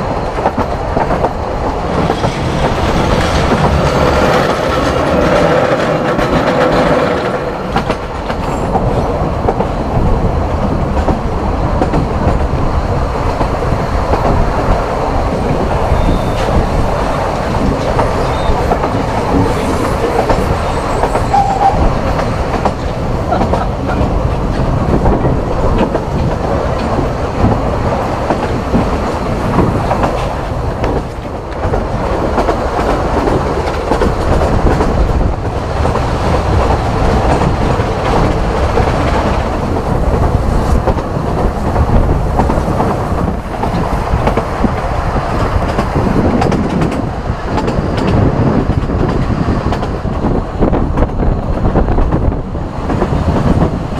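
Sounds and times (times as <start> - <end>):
train wheels rumbling and rattling: 0.0 - 53.9.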